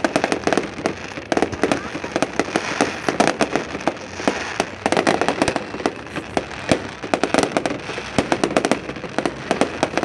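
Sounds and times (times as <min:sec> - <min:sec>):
fireworks bangs and crackling pops: 0:00.0 - 0:10.0.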